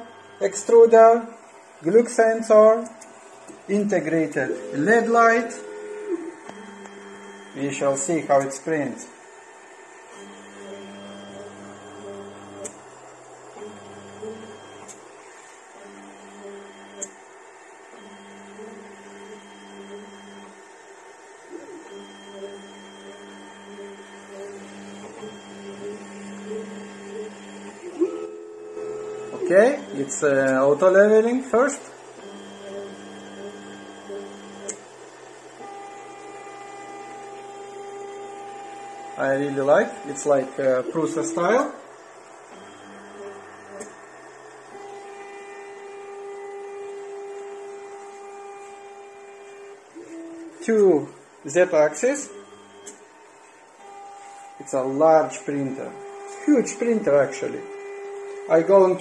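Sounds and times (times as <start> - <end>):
steady low hum: 0.0 - 59.0
stepper motors whining: 0.0 - 59.0.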